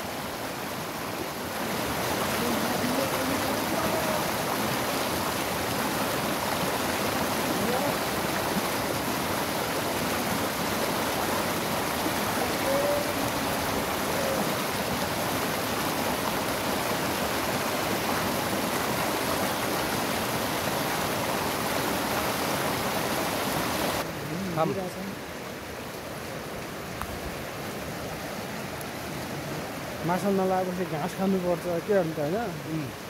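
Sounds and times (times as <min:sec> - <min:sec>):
river rapids rushing over boulders: 0:00.0 - 0:33.0.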